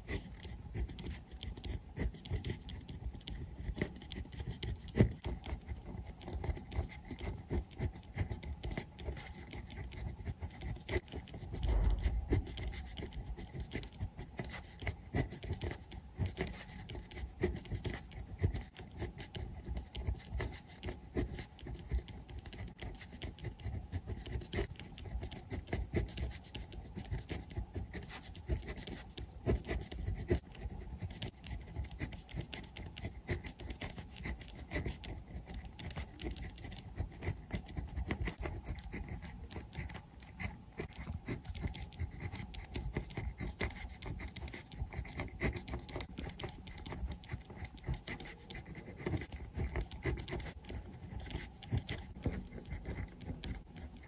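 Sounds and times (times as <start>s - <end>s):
pen nib scratching on paper: 0.0s - 54.0s.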